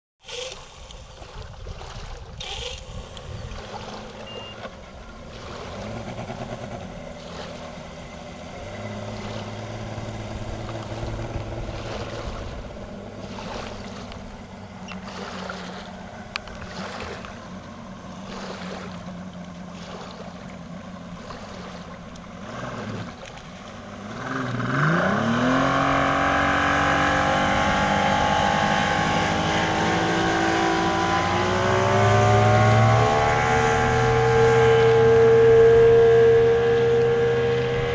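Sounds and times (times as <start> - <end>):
outboard motor running: 0.2 - 37.9.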